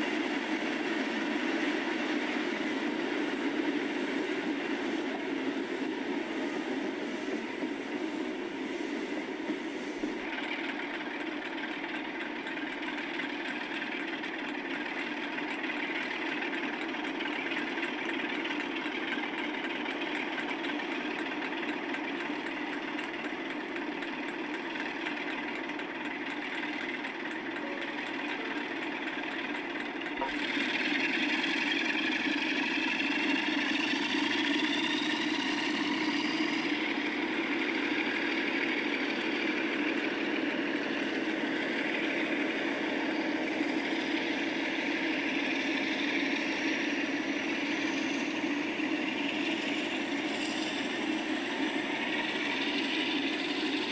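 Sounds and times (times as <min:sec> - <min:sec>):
diesel locomotive engine running: 0:00.0 - 0:53.9
rising whine: 0:00.0 - 0:53.9.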